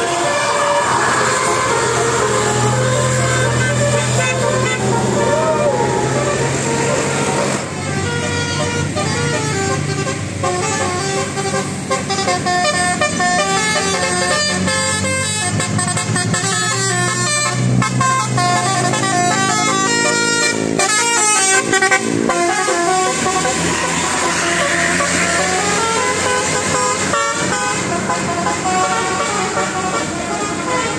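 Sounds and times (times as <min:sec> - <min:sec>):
bus engine running: 0:00.0 - 0:30.9
musical bus horn melody: 0:00.0 - 0:30.9.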